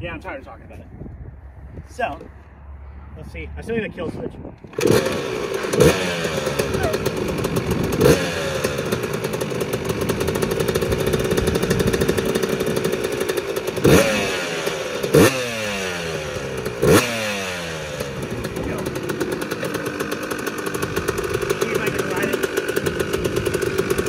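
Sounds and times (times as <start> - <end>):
two-stroke engine idling and revving: 4.6 - 24.0.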